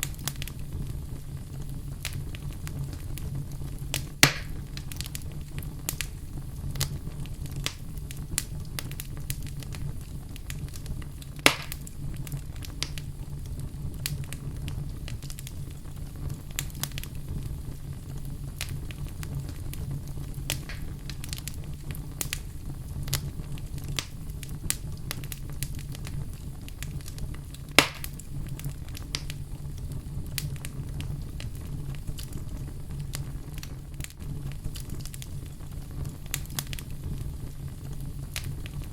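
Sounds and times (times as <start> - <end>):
fire crackles and pops: 0.0 - 38.9
low rumble of flames: 0.0 - 38.9.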